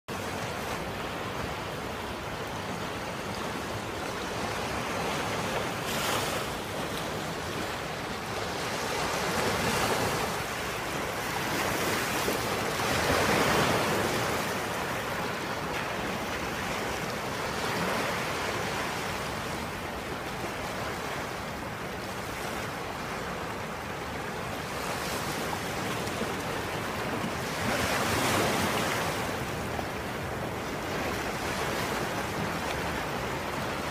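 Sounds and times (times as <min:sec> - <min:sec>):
waves washing onto beach: 0:00.1 - 0:33.9.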